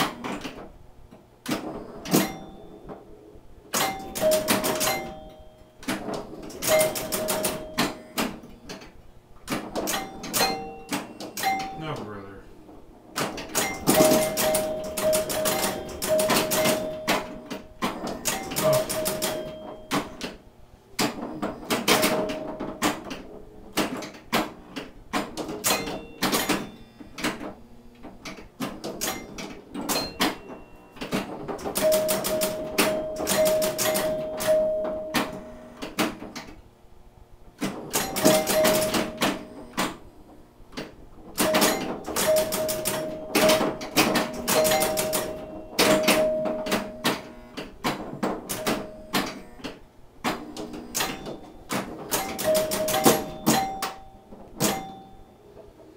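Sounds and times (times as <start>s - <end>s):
pinball scoring chimes: 0.0s - 0.8s, 1.5s - 20.4s, 21.0s - 36.6s, 37.6s - 55.9s
pinball flippers and relays clacking: 0.0s - 3.0s, 3.7s - 12.1s, 13.1s - 20.4s, 21.0s - 36.6s, 37.6s - 55.9s.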